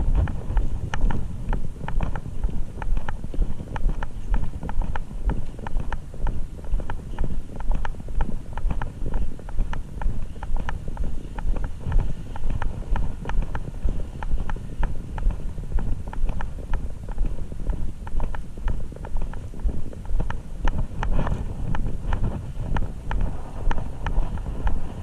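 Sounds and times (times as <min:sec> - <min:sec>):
clicky footsteps walking: 0:00.0 - 0:25.0
wind rumble on microphone: 0:00.0 - 0:25.0.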